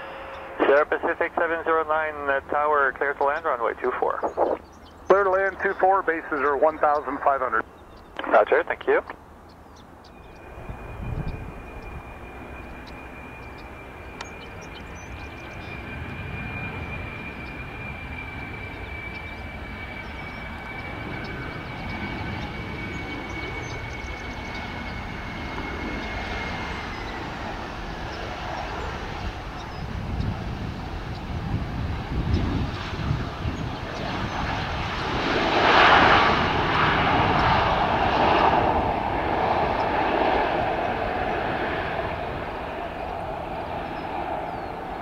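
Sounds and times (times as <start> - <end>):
jet engine whine and rush: 0.0 - 45.0.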